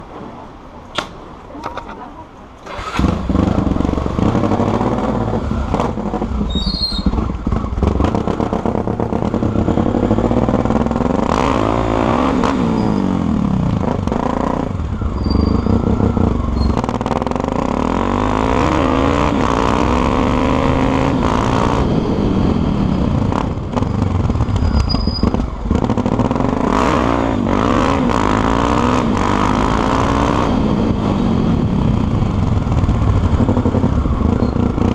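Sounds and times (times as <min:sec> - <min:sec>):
motorcycle engine revving: 0:02.6 - 0:34.9.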